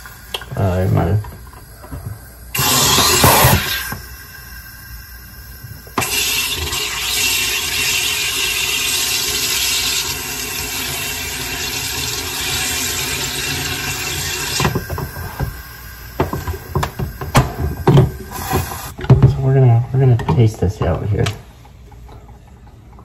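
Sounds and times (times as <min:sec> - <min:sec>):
gas injection hiss: 0:00.0 - 0:19.0.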